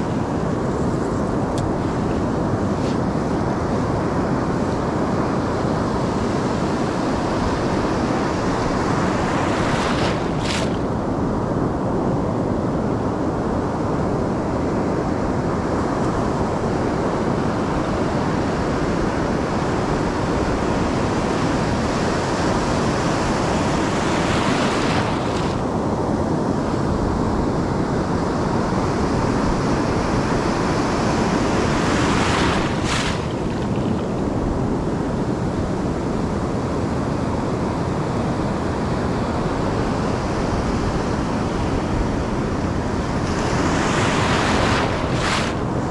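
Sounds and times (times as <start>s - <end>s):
ocean surf on a beach: 0.0s - 45.9s.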